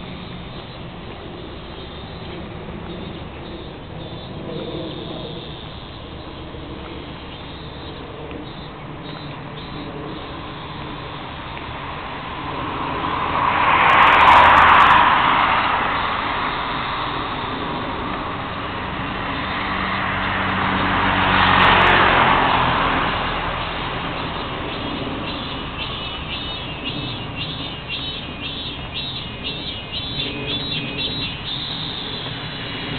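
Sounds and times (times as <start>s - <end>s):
low engine hum: 0.0s - 32.9s
road vehicles passing by: 0.0s - 32.9s.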